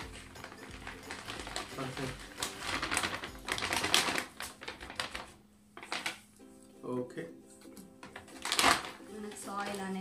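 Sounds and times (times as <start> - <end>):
plastic bag crinkling: 0.0 - 6.4, 8.0 - 10.0.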